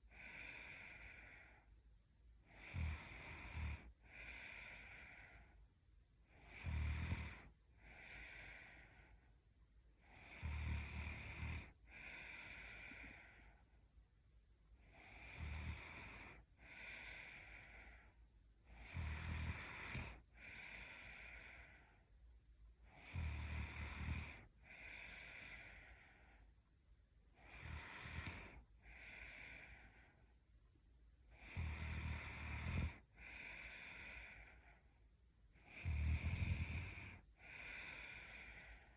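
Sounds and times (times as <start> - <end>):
soft breath: 0.0 - 14.1, 14.7 - 38.9
woman snoring: 0.1 - 1.6, 2.4 - 5.6, 6.3 - 9.2, 10.0 - 13.6, 14.8 - 22.0, 22.8 - 26.4, 27.3 - 30.2, 31.3 - 34.8, 35.6 - 38.9.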